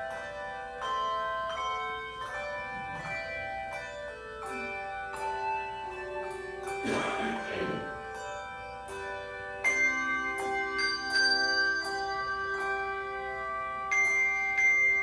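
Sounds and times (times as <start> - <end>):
handbell choir playing melody: 0.0 - 15.0.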